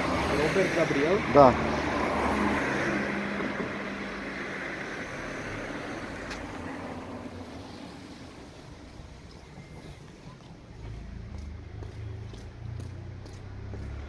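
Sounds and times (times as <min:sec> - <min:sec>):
passing vehicle engine hum: 0:00.0 - 0:14.0.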